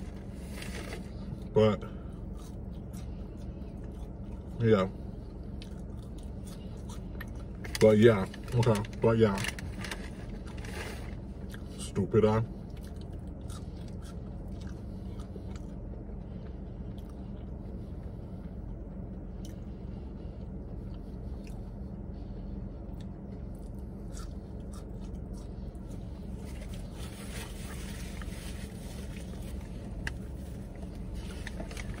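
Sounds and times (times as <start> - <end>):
person chewing fries: 0.0 - 11.9, 12.5 - 32.0
low hum inside a car: 0.0 - 32.0.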